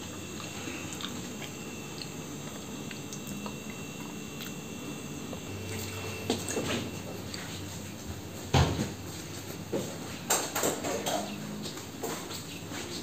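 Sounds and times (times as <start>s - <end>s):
faint high whine: 0.0s - 11.7s
low steady hum: 0.0s - 13.0s.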